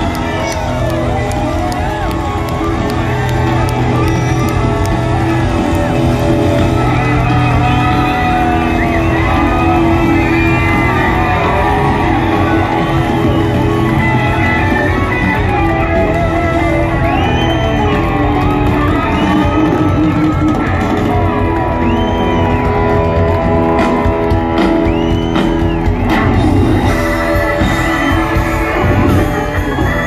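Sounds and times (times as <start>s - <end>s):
crowd whooping and yelling: 0.0s - 30.0s
live country-rock band: 0.0s - 30.0s.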